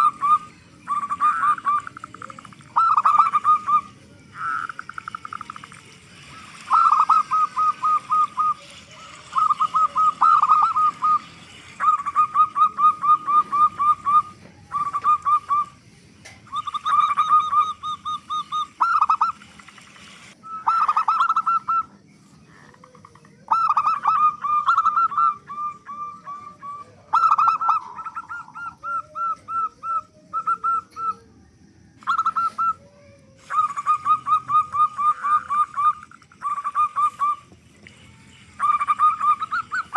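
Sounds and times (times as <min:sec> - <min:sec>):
low wavering bird call: 0:00.0 - 0:05.7, 0:06.3 - 0:39.9
dove cooing: 0:00.0 - 0:39.9.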